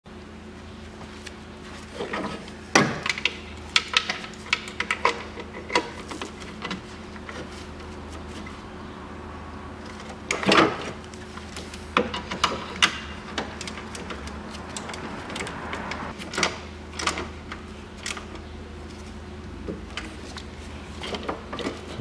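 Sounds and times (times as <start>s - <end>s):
steady low hum: 0.1s - 22.0s.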